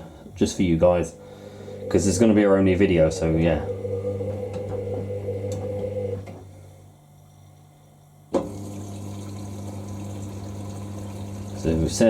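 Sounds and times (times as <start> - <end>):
washing machine humming: 0.0 - 12.0.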